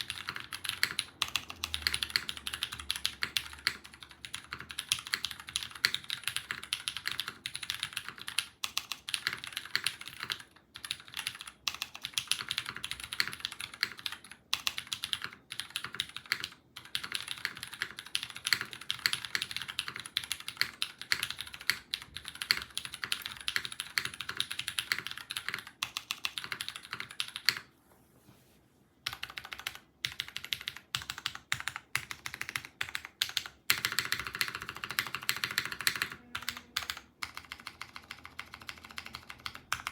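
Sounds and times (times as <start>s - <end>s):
mechanical keyboard typing: 0.0s - 27.7s, 29.0s - 39.9s.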